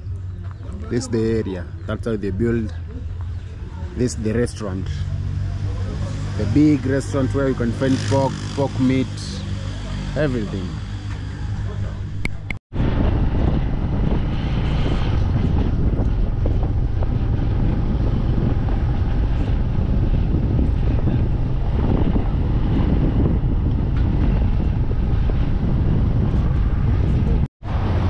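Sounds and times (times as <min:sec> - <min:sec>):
wind rushing on microphone: 0:00.0 - 0:28.0.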